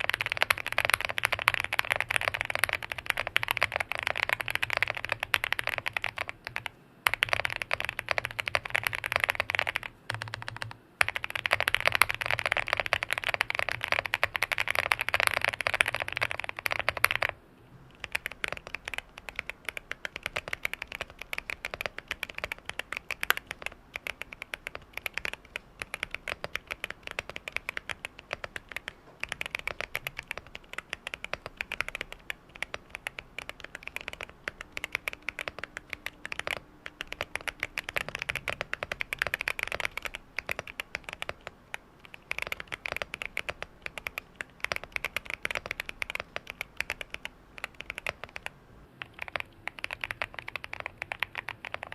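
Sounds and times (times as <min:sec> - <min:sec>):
typing on mechanical keyboard: 0:00.0 - 0:51.9.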